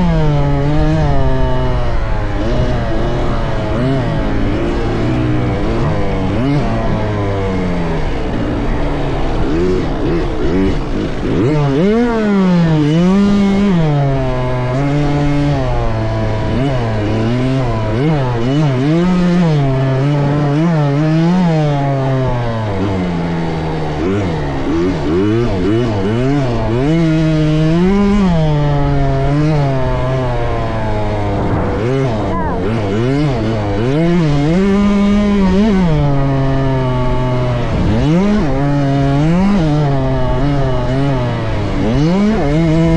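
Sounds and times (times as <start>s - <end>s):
dirt bike engines revving: 0.0s - 42.9s.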